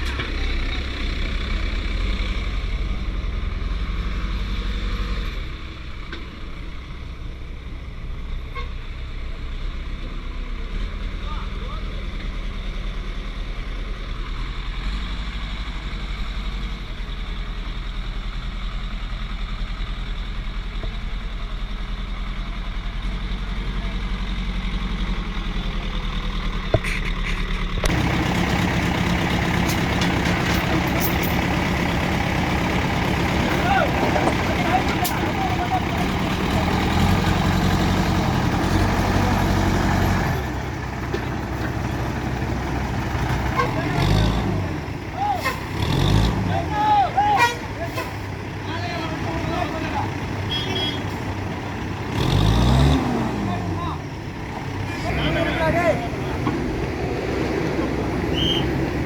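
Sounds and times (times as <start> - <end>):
heavy vehicle engine idling: 0.0 - 59.0.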